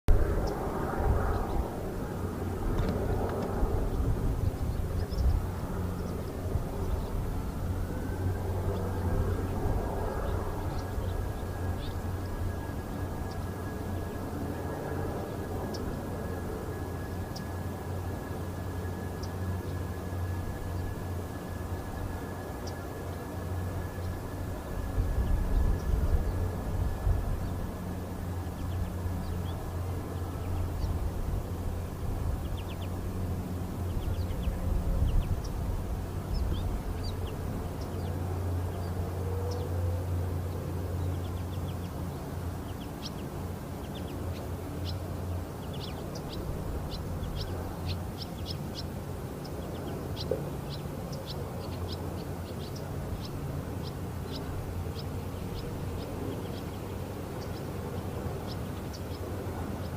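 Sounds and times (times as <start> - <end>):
small birds chirping: 0.1 - 2.2, 2.8 - 59.9.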